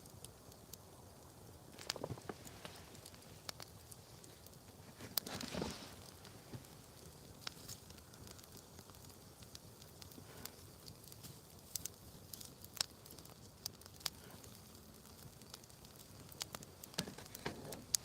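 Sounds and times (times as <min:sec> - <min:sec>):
campfire crackling: 0:00.0 - 0:18.0
fire pops and snaps: 0:00.0 - 0:18.0.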